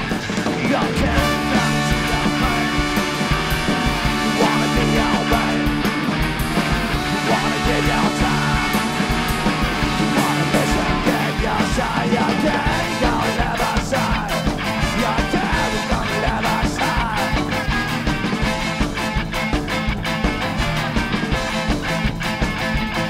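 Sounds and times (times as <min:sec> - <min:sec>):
drums: 0:00.0 - 0:23.0
electric guitar: 0:00.0 - 0:23.0
saxophone: 0:01.0 - 0:23.0.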